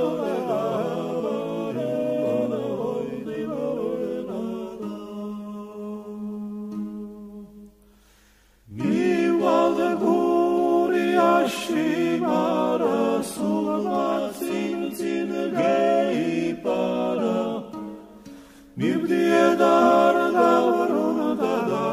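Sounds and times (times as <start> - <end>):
group singing a cappella: 0.0 - 7.8, 8.7 - 21.9.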